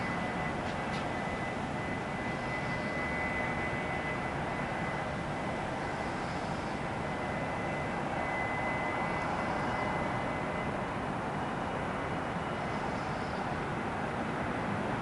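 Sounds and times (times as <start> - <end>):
faint high whine: 0.0 - 15.0
jet engines rushing: 0.0 - 15.0.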